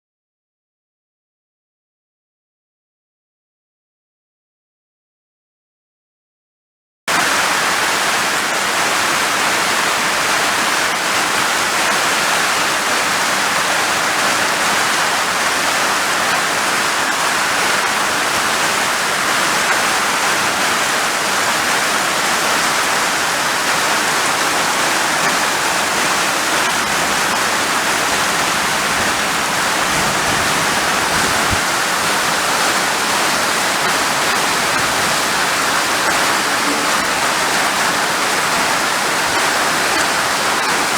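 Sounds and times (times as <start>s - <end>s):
heavy rain falling: 7.1s - 40.9s.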